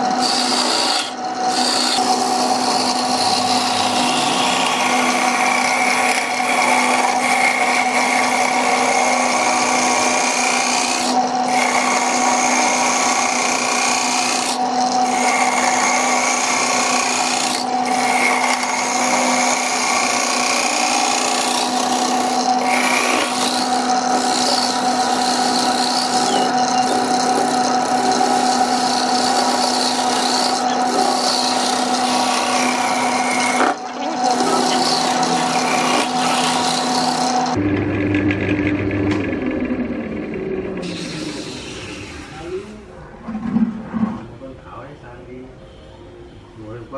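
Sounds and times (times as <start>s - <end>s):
gouge scraping wood: 0.0s - 37.6s
lathe motor hum: 0.0s - 42.4s.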